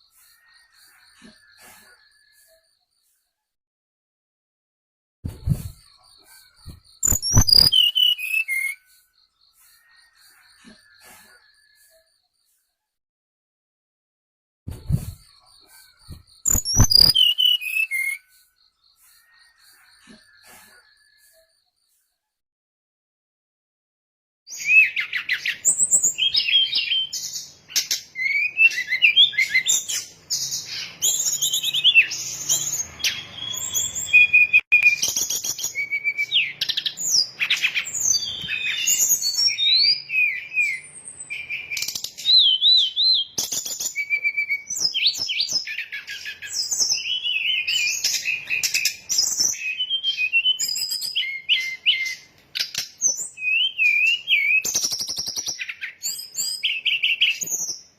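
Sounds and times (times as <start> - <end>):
bird song whistles and trills: 0.0 - 3.4, 5.3 - 12.7, 14.7 - 22.1, 24.5 - 57.9.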